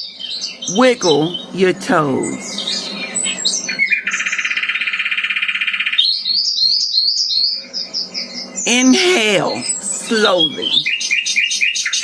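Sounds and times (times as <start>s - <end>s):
birds chirping: 0.0s - 12.0s
buzzy bird trill: 0.3s - 12.0s.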